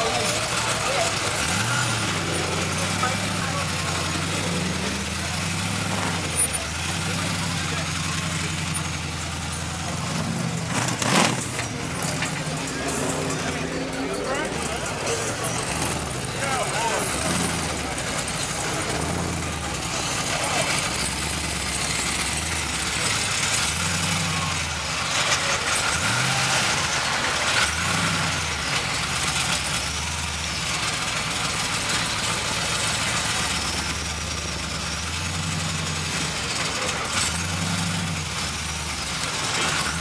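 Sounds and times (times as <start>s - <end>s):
car engines running: 0.0s - 40.0s.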